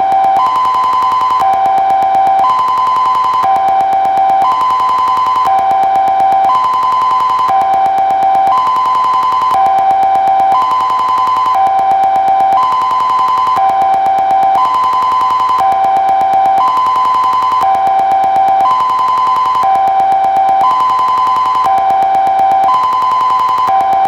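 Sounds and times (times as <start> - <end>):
two-tone siren: 0.0 - 24.0.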